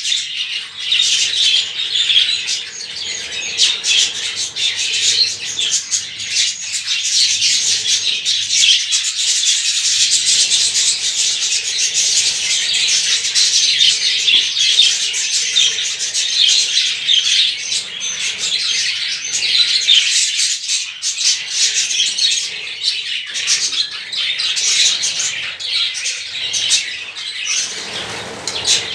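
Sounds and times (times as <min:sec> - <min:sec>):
budgerigars chirping and warbling: 0:00.0 - 0:28.9.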